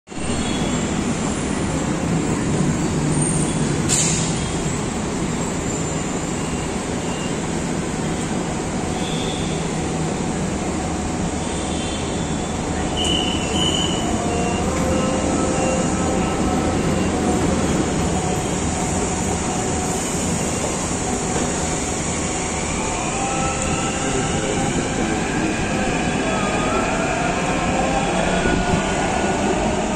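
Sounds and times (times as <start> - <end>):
train wheels rumbling on rail: 0.2 - 29.9.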